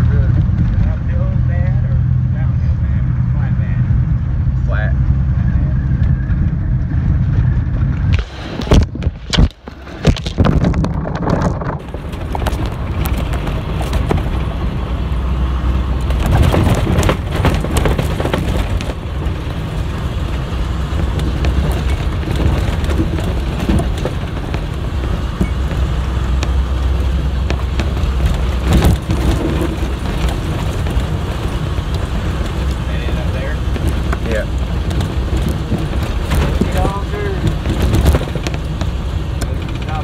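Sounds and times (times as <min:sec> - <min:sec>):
rattles and knocks over bumps: 0:00.0 - 0:03.8, 0:06.0 - 0:40.0
bus engine and tyre rumble: 0:00.0 - 0:40.0.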